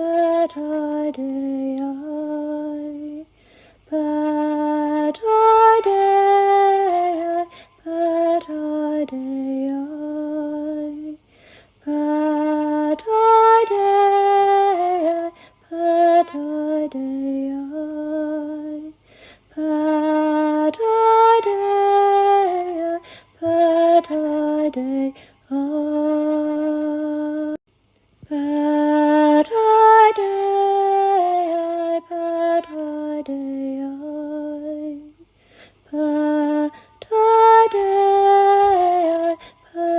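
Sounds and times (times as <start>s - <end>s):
woman singing wordless chant: 0.0s - 27.6s, 28.2s - 39.9s.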